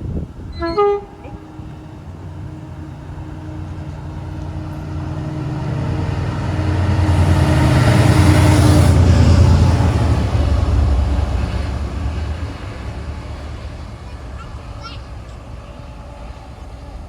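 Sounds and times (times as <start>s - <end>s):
diesel train engine drone: 0.0s - 17.0s
wheels rushing on rail: 0.0s - 17.0s.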